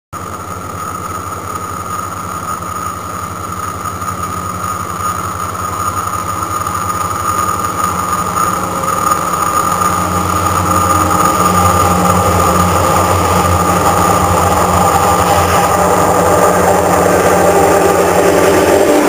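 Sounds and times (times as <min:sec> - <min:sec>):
diesel train hum: 0:00.1 - 0:19.0
high ringing tone: 0:00.2 - 0:19.0.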